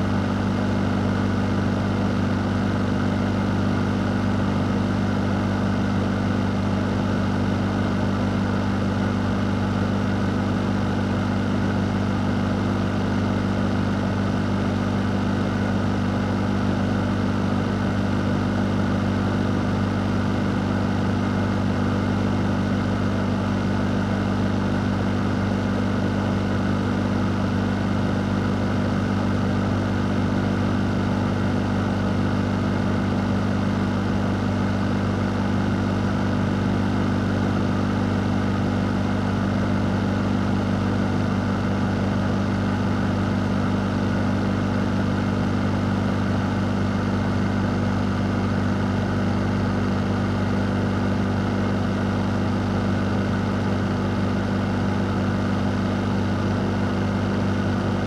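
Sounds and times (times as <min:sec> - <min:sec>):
fan running: 0:00.0 - 0:58.0.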